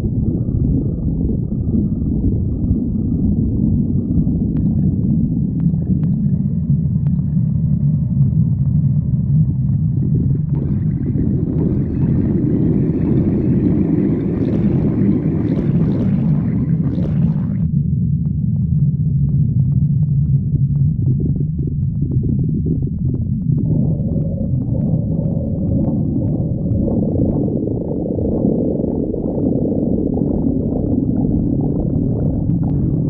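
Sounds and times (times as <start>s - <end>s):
stomach growling: 0.0s - 33.0s.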